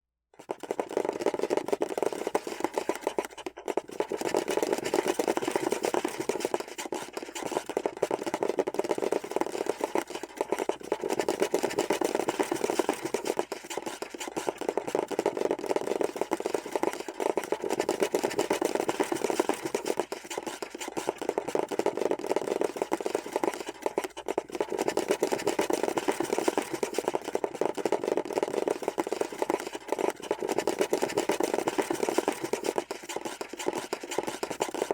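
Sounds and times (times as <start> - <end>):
rapid scratchy scurrying: 0.4 - 34.9.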